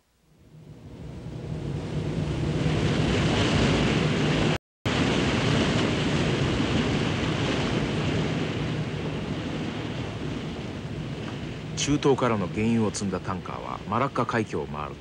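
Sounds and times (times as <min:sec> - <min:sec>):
low hum: 0:00.0 - 0:15.0
wind: 0:00.0 - 0:15.0
sea water rushing: 0:01.5 - 0:15.0.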